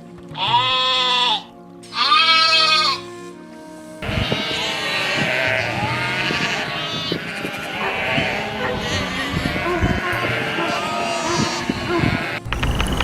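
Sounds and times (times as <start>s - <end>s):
background music with held notes: 0.0s - 13.0s
livestock bleating: 0.3s - 3.1s, 4.0s - 12.5s.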